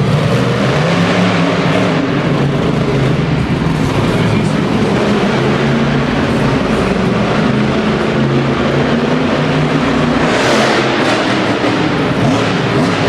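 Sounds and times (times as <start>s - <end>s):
monster truck engine running: 0.0s - 13.0s.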